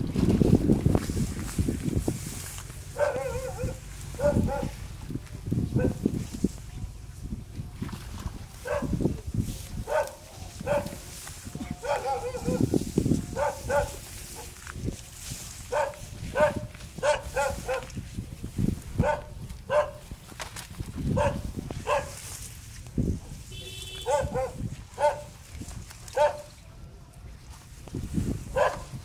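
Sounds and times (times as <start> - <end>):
rustling through dense vegetation: 0.0 - 29.0.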